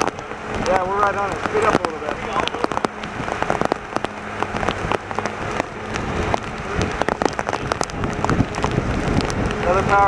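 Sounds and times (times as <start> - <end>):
rain pelting a vehicle: 0.0 - 10.0.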